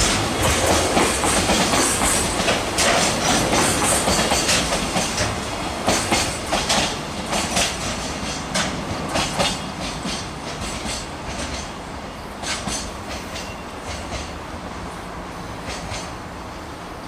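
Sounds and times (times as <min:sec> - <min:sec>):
train wheels clacking: 0:00.0 - 0:14.8, 0:15.6 - 0:16.4
train rumble: 0:00.0 - 0:17.0.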